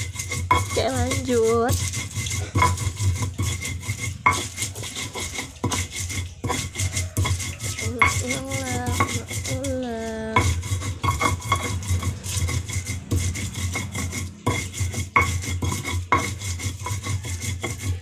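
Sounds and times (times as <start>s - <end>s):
stone pestle grinding on mortar: 0.0s - 18.0s.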